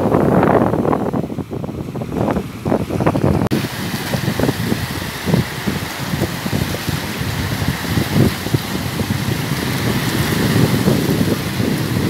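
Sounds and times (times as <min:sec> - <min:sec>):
small waves breaking on shore: 0:00.0 - 0:12.0
wind buffeting microphone: 0:00.0 - 0:12.0.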